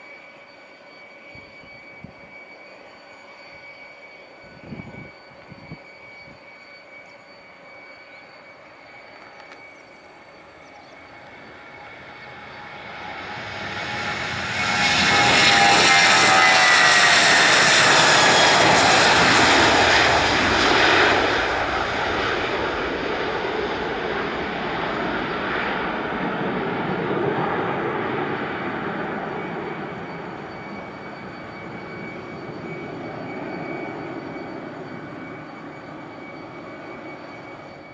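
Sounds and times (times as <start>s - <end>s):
jet engines roaring at takeoff: 0.0s - 37.9s
whining jet engine tones: 0.0s - 37.9s.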